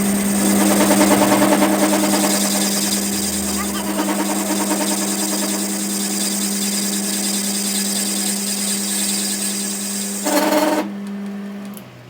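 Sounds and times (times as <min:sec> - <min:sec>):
power tool humming and hissing: 0:00.0 - 0:10.8.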